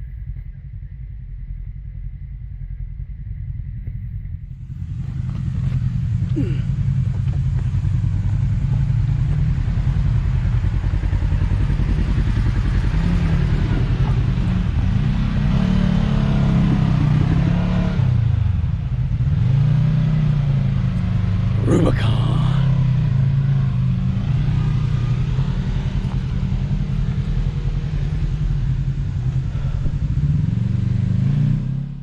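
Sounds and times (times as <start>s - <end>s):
utility vehicle engine revving: 4.8s - 21.6s, 22.6s - 32.0s.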